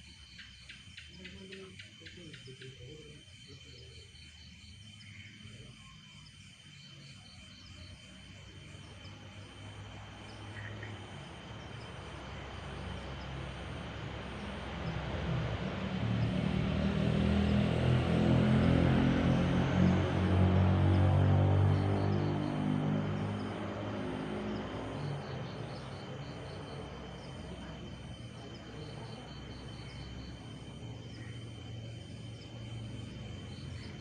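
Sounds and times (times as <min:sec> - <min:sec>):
night insects chirping: 0:00.0 - 0:34.0.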